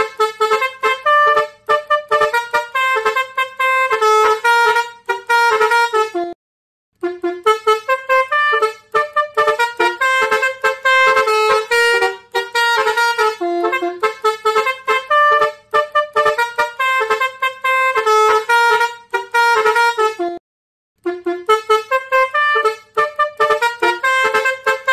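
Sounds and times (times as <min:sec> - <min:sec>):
musical air horn playing tune: 0:00.0 - 0:06.4, 0:07.0 - 0:20.4, 0:21.0 - 0:24.9.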